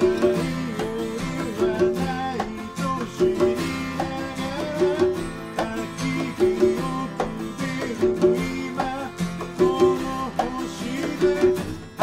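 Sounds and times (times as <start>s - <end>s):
acoustic band with plucked strings: 0.0s - 12.0s.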